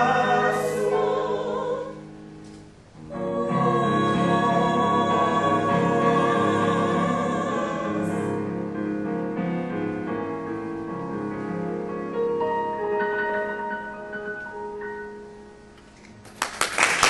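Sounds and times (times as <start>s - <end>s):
piano accompaniment: 0.0s - 17.0s.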